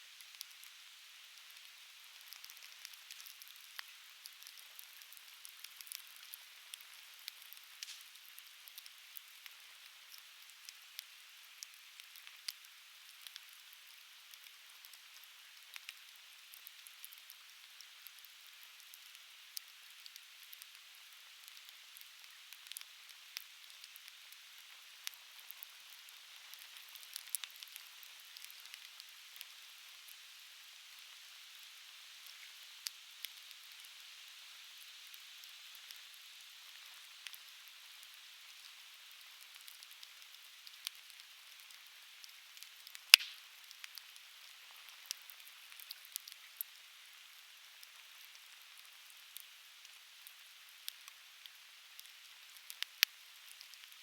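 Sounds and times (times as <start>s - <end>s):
faint hiss: 0.0s - 54.0s
fire crackling and popping: 0.2s - 30.2s, 34.7s - 54.0s.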